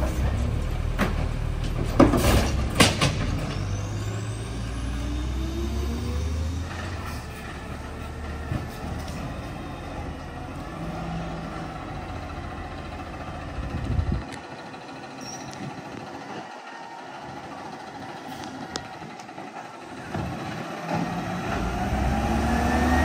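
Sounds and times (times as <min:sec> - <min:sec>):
diesel truck engine rumbling: 0:00.0 - 0:23.0.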